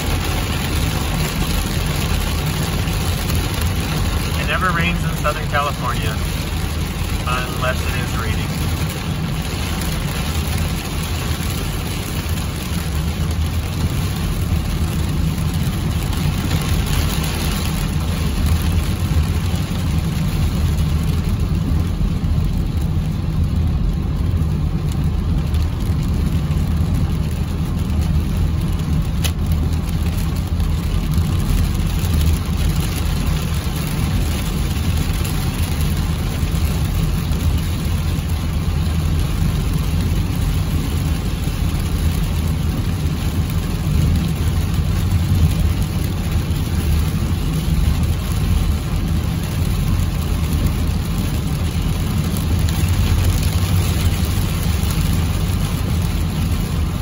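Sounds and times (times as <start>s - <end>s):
rain on windshield: 0.0s - 57.0s
tyre noise on wet road: 0.0s - 57.0s.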